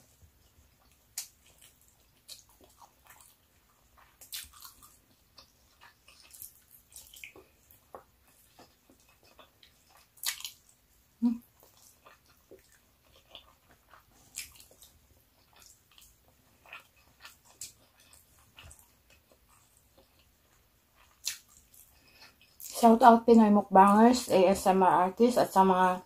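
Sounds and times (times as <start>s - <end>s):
wet chewing mouth sounds: 0.2s - 22.8s.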